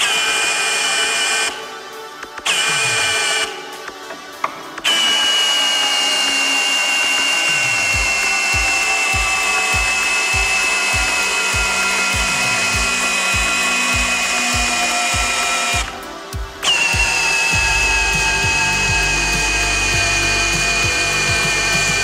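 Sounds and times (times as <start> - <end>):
cordless drill motor whining: 0.0 - 1.7, 2.4 - 3.6, 4.9 - 22.0.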